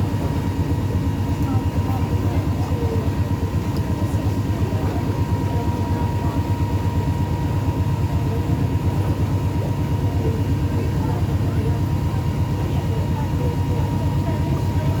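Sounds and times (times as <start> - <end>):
boat engine rumble: 0.0 - 15.0.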